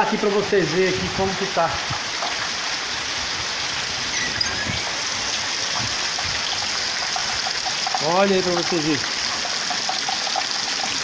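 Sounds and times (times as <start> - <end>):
heavy rain: 0.0 - 11.0
water running over ground: 0.0 - 11.0.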